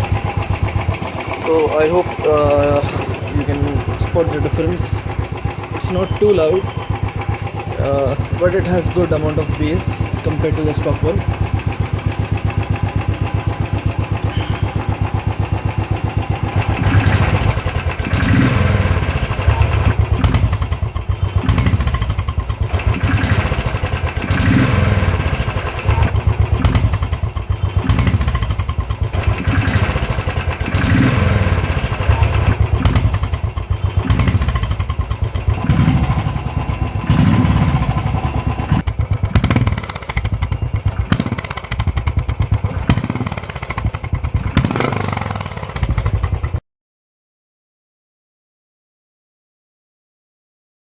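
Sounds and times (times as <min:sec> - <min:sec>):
motorcycle engine idling and revving: 0:00.0 - 0:46.6.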